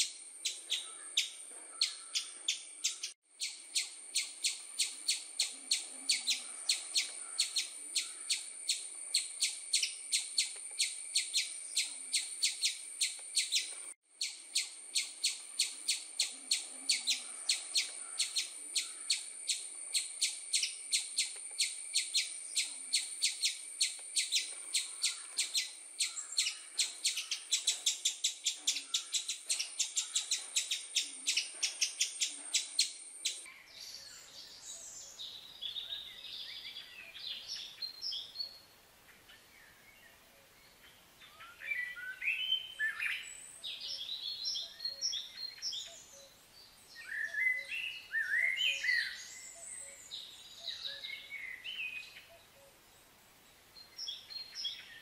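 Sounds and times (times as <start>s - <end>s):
small songbird chirping rapidly: 0.0s - 33.5s, 41.5s - 52.6s, 53.6s - 55.0s
soft scattered bird calls: 0.0s - 55.0s.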